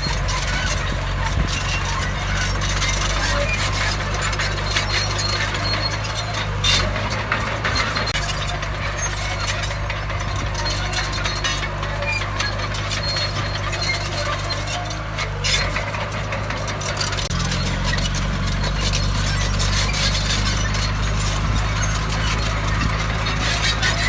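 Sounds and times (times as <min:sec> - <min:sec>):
heavy diesel machine engine: 0:00.0 - 0:24.0
metallic clinks and squeaks: 0:00.0 - 0:24.0.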